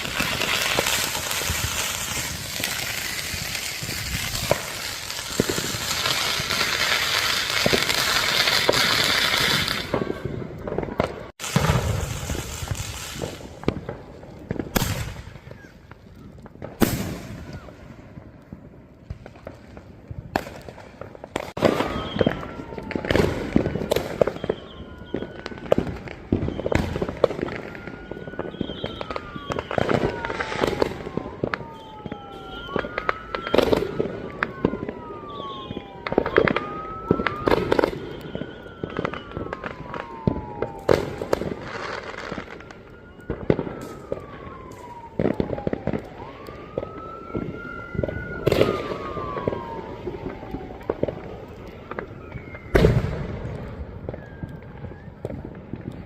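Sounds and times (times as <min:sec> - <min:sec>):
fireworks bangs and crackles: 0:00.0 - 0:56.0
siren-like wail: 0:00.0 - 0:56.0.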